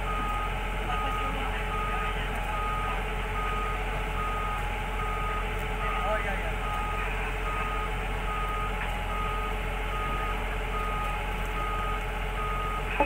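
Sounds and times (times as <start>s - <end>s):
diesel engine running: 0.0s - 13.0s
travel alarm beeping: 0.0s - 13.0s.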